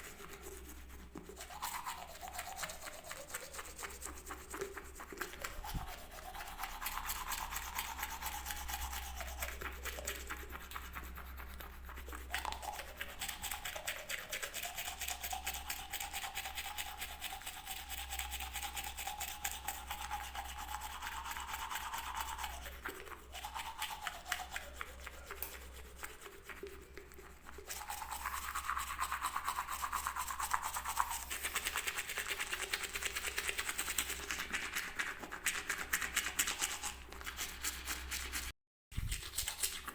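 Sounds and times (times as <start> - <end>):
toothbrush scrubbing teeth: 0.0 - 39.9.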